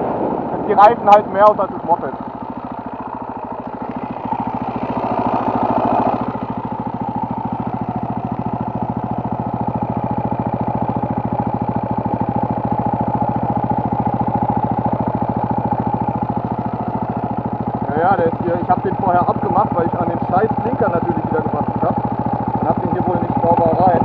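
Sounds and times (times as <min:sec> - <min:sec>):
moped engine idling: 0:00.0 - 0:24.0.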